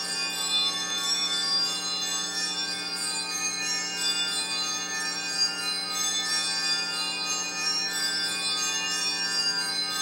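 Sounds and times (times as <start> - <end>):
sustained bell-like chord: 0.0 - 10.0.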